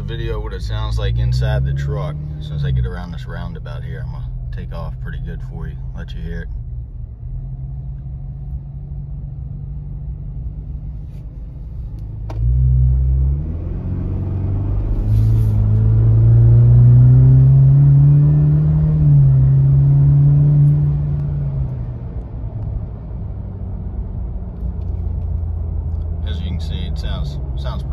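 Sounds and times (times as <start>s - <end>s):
truck engine accelerating: 0.0s - 27.9s.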